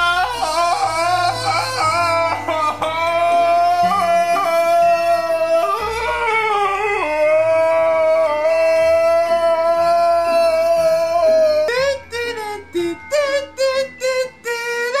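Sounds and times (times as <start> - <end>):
man comic wailing: 0.0 - 15.0.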